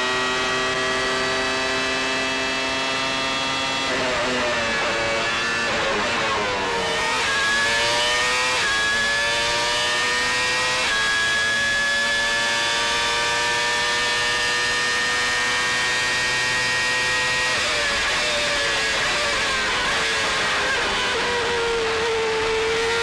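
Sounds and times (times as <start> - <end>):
racing car engine at full throttle: 0.0 - 23.0.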